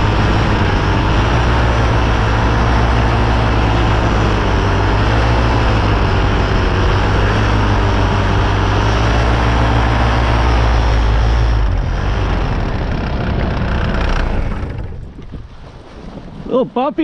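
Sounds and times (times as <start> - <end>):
paramotor engine and propeller: 0.0 - 17.0.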